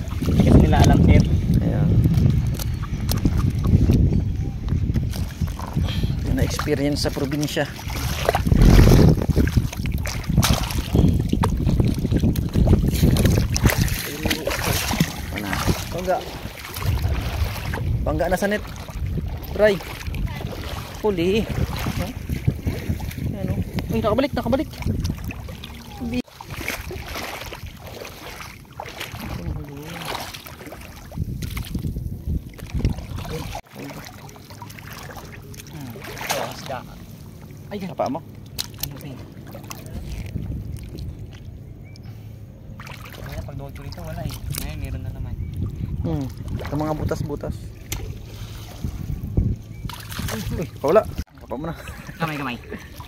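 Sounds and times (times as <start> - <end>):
low rumble on microphone: 0.0 - 33.9, 39.3 - 53.0
water sloshing and bubbling: 0.0 - 53.0.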